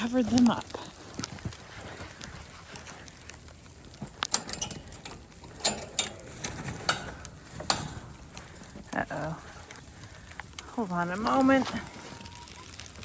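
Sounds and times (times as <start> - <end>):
footsteps crunching on sleet: 0.0 - 4.2, 6.8 - 13.0
faint steady hiss: 0.0 - 13.0.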